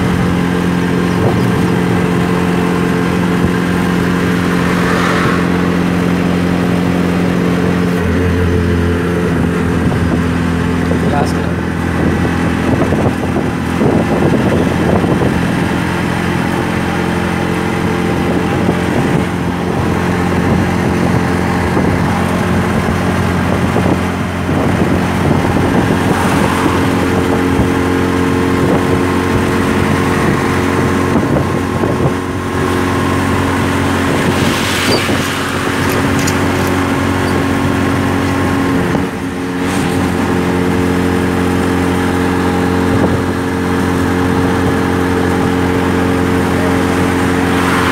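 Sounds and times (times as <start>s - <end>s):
auto rickshaw engine running: 0.0s - 4.8s, 5.6s - 47.9s
wind noise: 0.0s - 47.9s.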